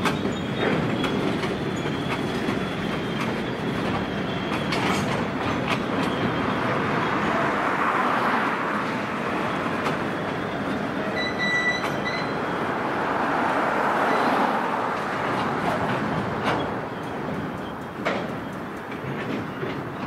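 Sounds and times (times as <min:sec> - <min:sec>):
high wheel squeal: 0:00.0 - 0:12.6, 0:13.9 - 0:20.0
freight train wheels rumbling: 0:00.0 - 0:20.0.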